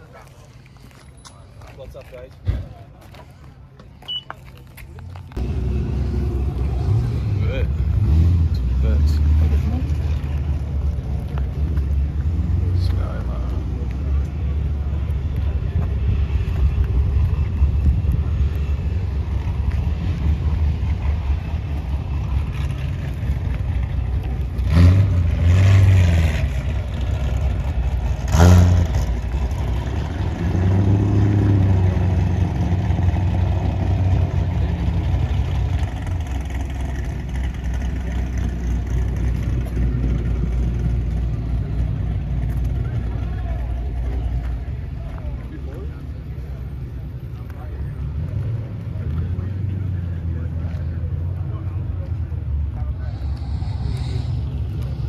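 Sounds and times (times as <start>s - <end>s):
car engine rumbling and revving: 4.6s - 55.0s.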